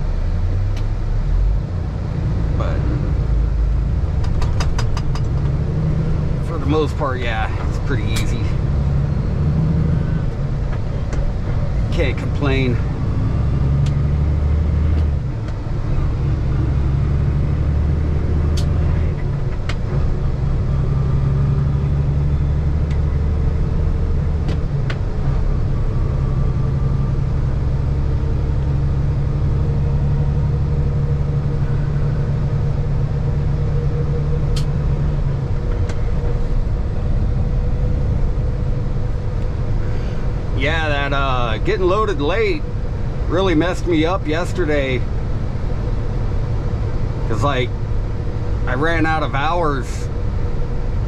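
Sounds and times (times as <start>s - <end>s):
truck engine and road drone: 0.0s - 51.0s.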